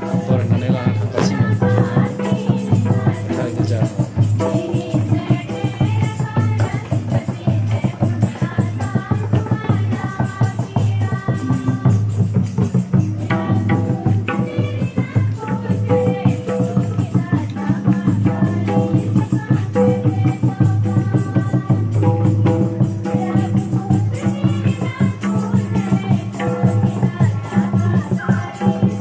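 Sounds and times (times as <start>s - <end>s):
barrel drum beaten quickly: 0.0s - 29.0s
rattling shaker beat: 0.0s - 29.0s.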